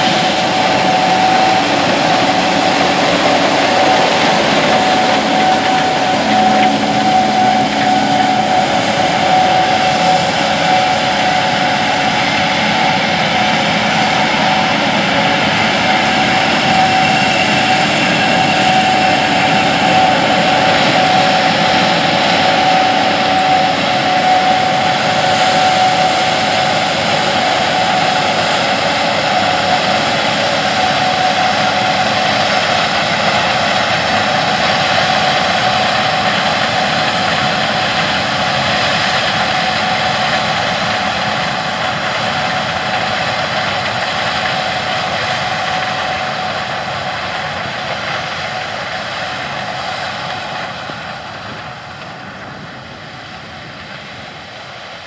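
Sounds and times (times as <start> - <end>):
combine harvester droning: 0.0 - 55.0
high machinery whine: 0.0 - 55.0.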